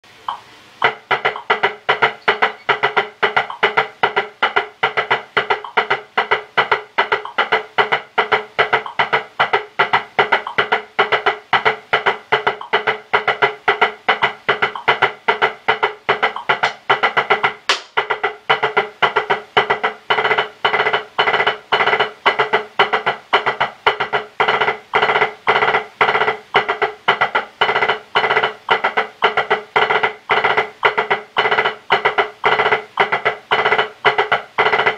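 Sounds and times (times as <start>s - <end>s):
drumsticks on practice pad: 0.3s - 34.9s.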